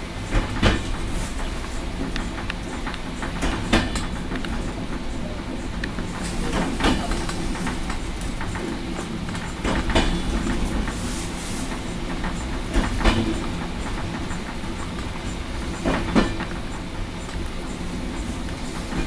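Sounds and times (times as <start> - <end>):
wheels clacking over rail joints: 0.0 - 11.1, 11.7 - 19.0
train running rumble: 0.0 - 19.0.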